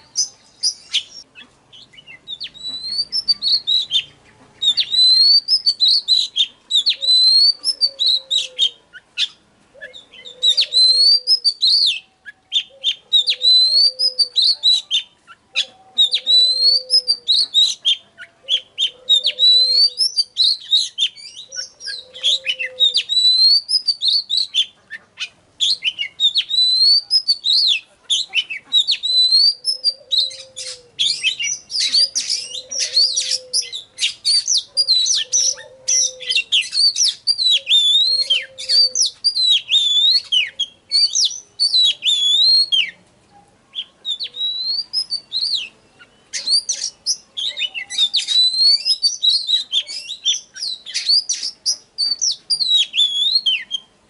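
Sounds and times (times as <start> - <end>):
rapid bird chattering: 0.0 - 12.0, 12.6 - 42.9, 43.7 - 53.8
bird singing whistled phrases: 0.0 - 43.0, 43.7 - 53.9.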